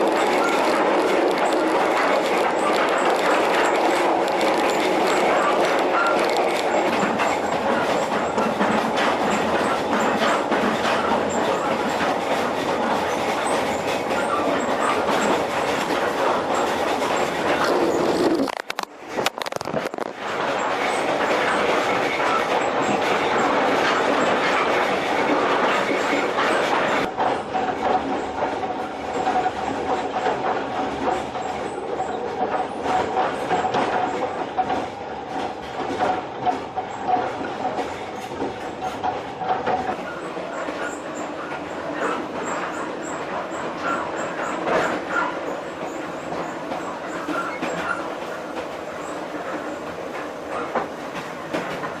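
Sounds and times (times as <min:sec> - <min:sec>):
clacks over rail joints: 0:00.0 - 0:52.0
train wheels clattering: 0:00.0 - 0:52.0.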